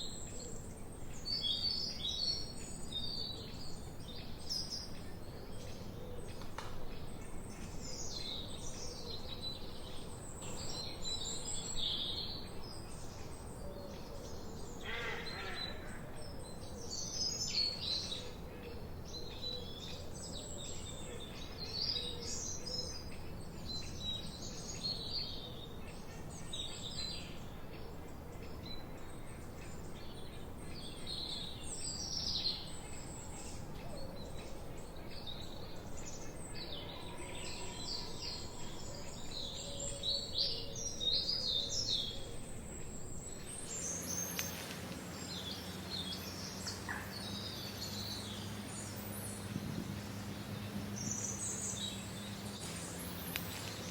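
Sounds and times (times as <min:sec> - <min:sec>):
faint background hiss: 0:00.0 - 0:53.9
forest birds singing and chirping: 0:00.0 - 0:53.9.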